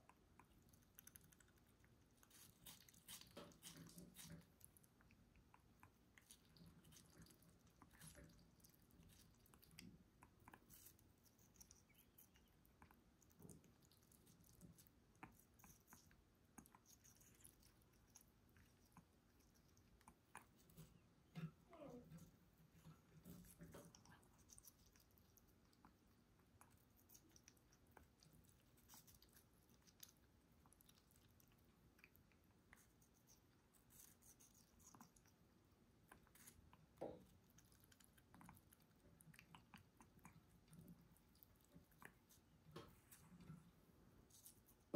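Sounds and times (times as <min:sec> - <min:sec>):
parrot chewing watermelon: 0:00.0 - 0:44.9.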